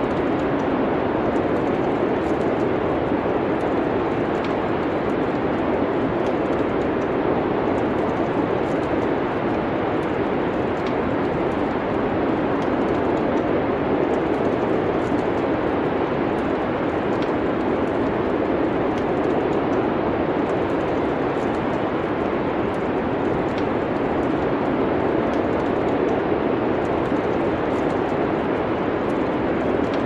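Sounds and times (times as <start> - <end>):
wind in a snowstorm: 0.0 - 30.0
wood fire crackling: 0.0 - 30.0.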